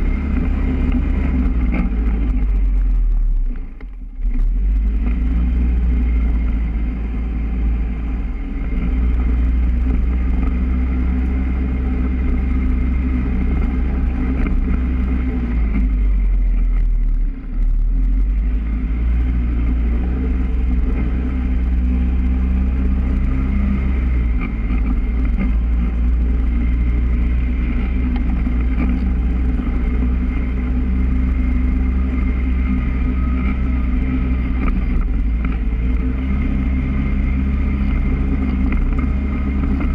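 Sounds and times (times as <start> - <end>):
atv engine rumbling: 0.0 - 39.9.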